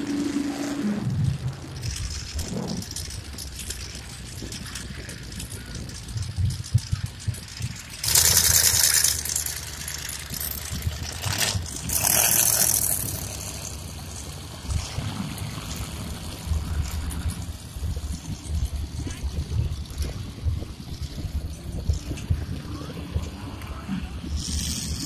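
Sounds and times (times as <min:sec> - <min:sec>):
truck engines rumbling: 0:00.0 - 0:25.0.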